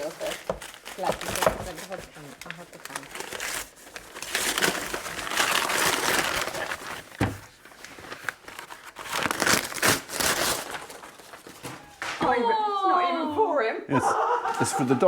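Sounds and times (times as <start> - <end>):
packaging crumpled and torn: 0.0 - 12.1.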